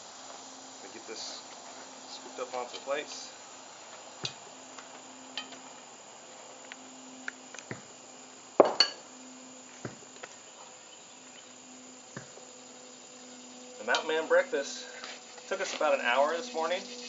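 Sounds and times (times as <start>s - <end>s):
faint steady buzz: 0.0s - 17.0s.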